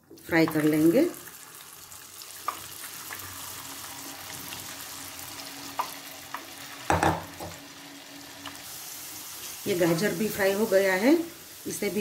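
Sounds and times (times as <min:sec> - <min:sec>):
carrot pieces sizzling in hot oil: 0:00.0 - 0:12.0.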